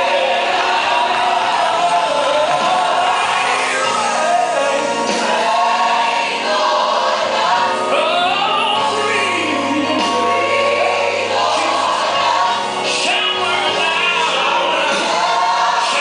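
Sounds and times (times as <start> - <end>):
band accompaniment: 0.0 - 16.0
gospel choir singing: 0.0 - 16.0.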